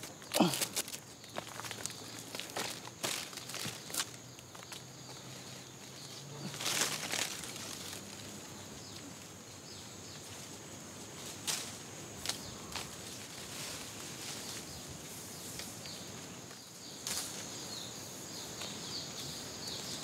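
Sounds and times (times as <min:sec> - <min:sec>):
faint outdoor background: 0:00.0 - 0:20.0
leaves and twigs crackling: 0:00.0 - 0:20.0.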